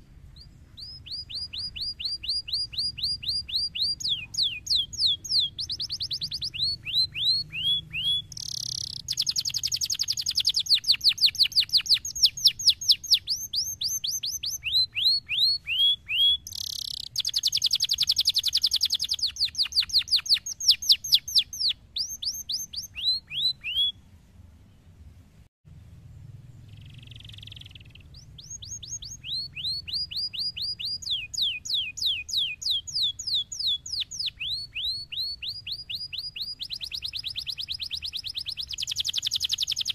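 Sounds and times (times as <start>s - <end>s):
canary singing: 0.0s - 24.0s, 26.6s - 39.9s.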